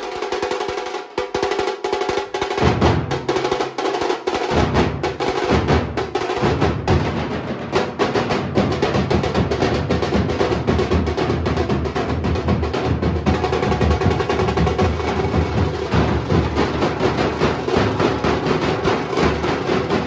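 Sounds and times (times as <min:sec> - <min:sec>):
fast dense drumming: 0:00.0 - 0:20.0.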